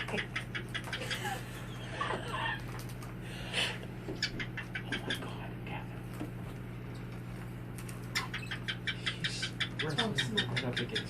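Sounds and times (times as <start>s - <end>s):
cage birds chirping: 0.0s - 11.0s
steady low hum: 0.0s - 11.0s.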